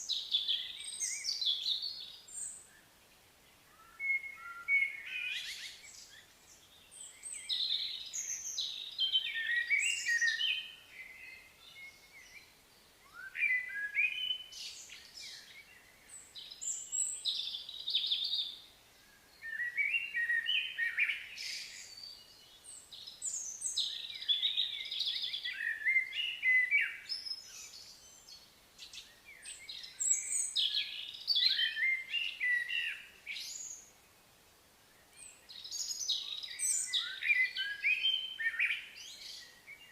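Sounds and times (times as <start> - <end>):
bird song chirping: 0.0 - 39.9.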